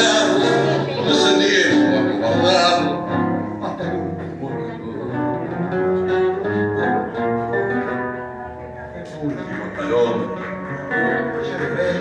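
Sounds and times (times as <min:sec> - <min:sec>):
acoustic guitars playing: 0:00.0 - 0:12.0.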